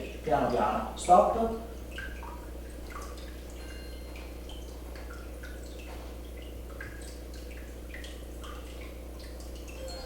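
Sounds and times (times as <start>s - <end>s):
water dripping: 0.0s - 10.0s.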